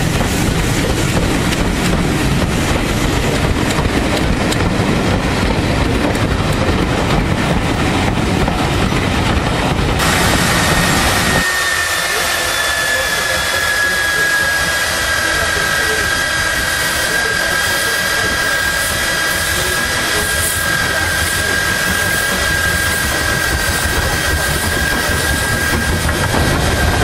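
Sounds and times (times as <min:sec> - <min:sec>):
train wheels clicking over joints: 0:00.0 - 0:10.1, 0:15.3 - 0:27.0
steady rushing noise: 0:00.0 - 0:27.0.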